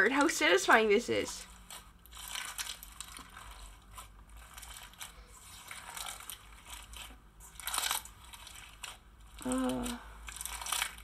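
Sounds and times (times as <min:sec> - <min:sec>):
crunchy bead slime crackling: 0:00.0 - 0:11.0.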